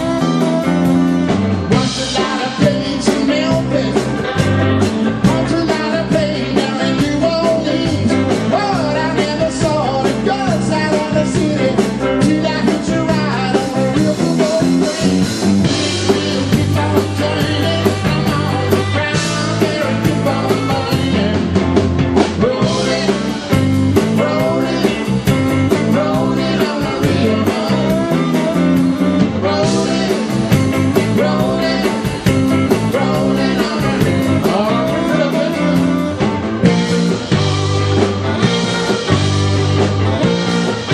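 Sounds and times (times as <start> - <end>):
man singing lead vocal: 0.0 - 37.0
drum kit beat: 0.0 - 40.9
electric bass: 0.0 - 40.9
electric guitar: 0.0 - 40.9.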